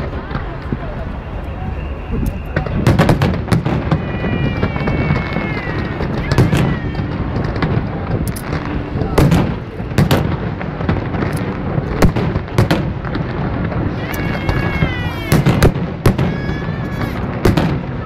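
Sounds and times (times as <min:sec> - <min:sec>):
fireworks rumble and crackle: 0:00.0 - 0:18.0.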